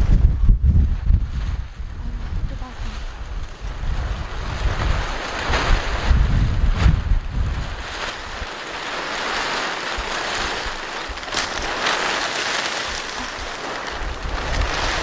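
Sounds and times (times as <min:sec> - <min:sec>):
gusty wind rushing: 0:00.0 - 0:15.0
wind buffeting microphone: 0:00.0 - 0:15.0.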